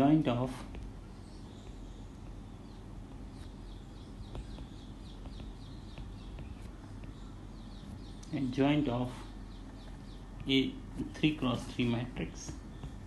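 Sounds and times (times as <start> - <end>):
low electrical hum: 0.0 - 13.0
small birds chirping: 0.0 - 13.0.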